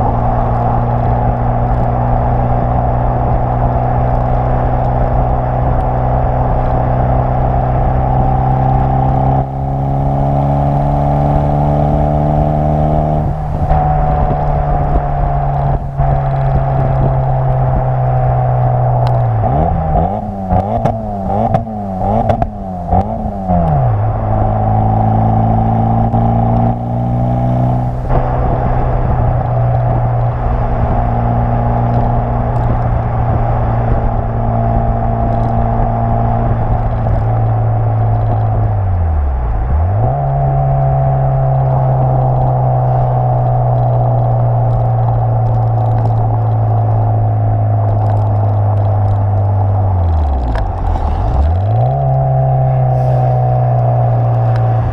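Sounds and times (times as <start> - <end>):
car engine exhaust revving: 0.0 - 54.9.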